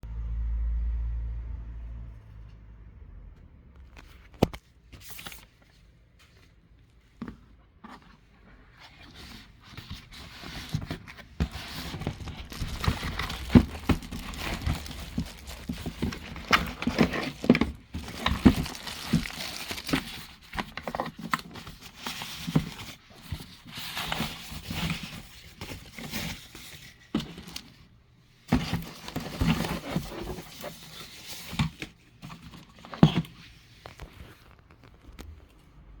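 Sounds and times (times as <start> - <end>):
packaging crinkling and rustling: 3.9 - 35.6.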